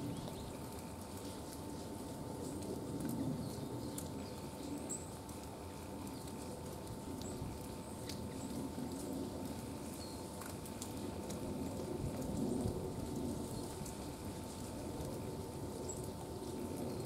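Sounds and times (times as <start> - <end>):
songbirds chirping: 0.0 - 11.2, 13.4 - 17.0.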